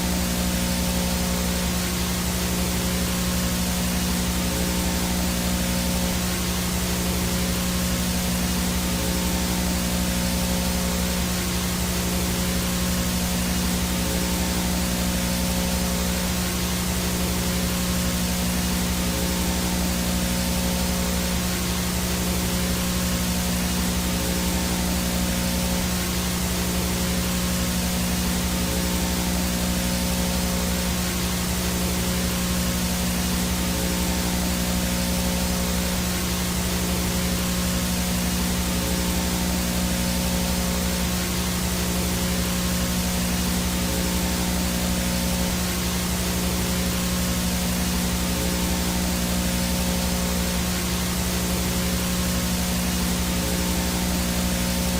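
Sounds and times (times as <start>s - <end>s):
faint high whine: 0.0s - 54.9s
low buzzing hum: 0.0s - 54.9s
static hiss: 0.0s - 54.9s.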